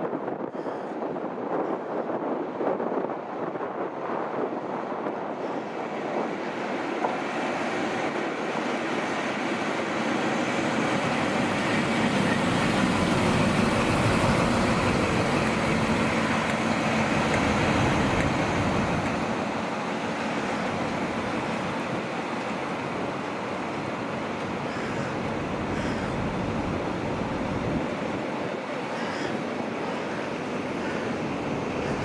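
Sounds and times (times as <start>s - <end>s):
diesel train passing: 0.0s - 32.0s.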